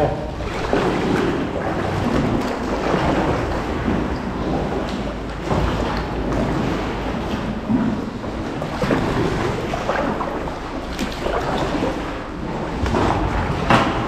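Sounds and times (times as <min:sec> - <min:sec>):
paddle splashes: 0:00.0 - 0:14.0
sea water sloshing and lapping: 0:00.0 - 0:14.0.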